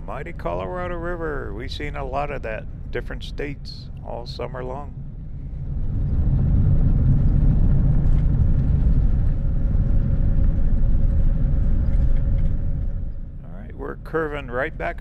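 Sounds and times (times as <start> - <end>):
faint steady whine: 0.0 - 15.0
tyre and wind rumble: 0.0 - 15.0.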